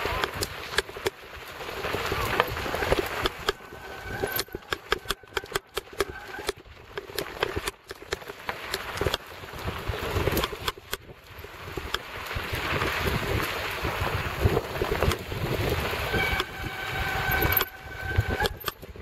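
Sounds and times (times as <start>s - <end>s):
bike rattling knocks and clicks: 0.0s - 19.0s
wind rumbling on microphone: 0.0s - 19.0s.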